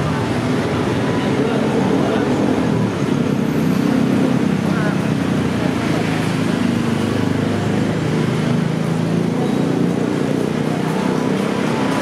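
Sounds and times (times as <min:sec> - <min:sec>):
motor traffic rumble: 0:00.0 - 0:12.0
people's voices: 0:00.0 - 0:12.0.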